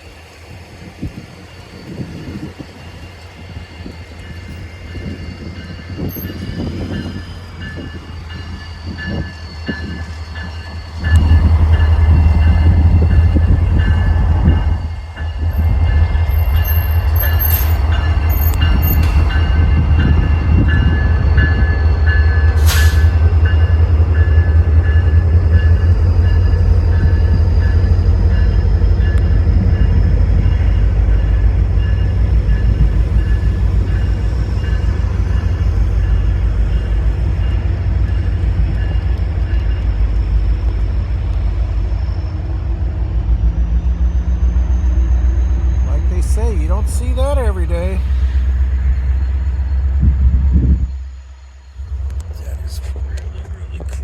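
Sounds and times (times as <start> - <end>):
locomotive engine rumble: 0.0 - 54.0.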